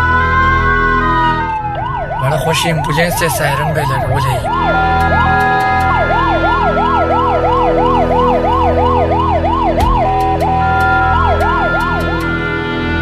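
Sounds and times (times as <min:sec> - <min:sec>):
ambulance siren yelping: 0:00.0 - 0:13.0.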